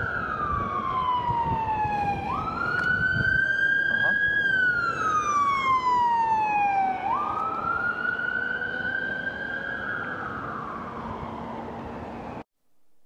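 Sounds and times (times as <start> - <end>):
emergency siren wailing: 0.0 - 12.4.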